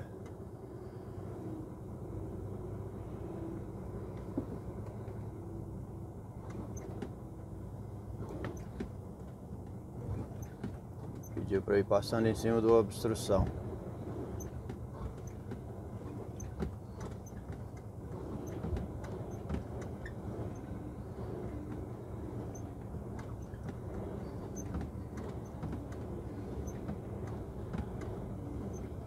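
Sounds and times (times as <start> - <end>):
lorry diesel engine droning: 0.0 - 29.0.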